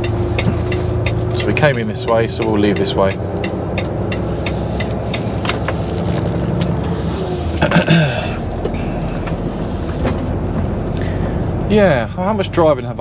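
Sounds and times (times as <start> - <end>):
lorry diesel engine running: 0.0 - 13.0.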